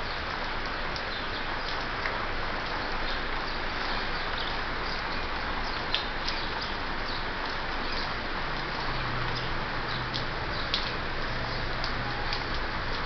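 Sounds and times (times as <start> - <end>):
steady rain hiss: 0.0 - 13.0
water drips: 0.0 - 13.0.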